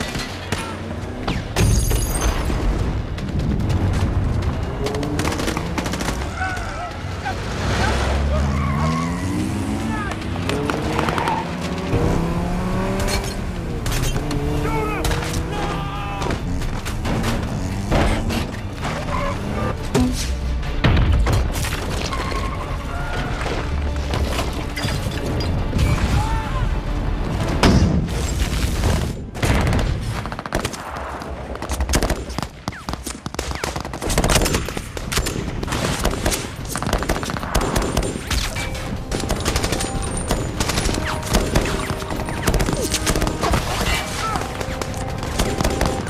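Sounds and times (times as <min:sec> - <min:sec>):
film score music: 0:02.3 - 0:46.0.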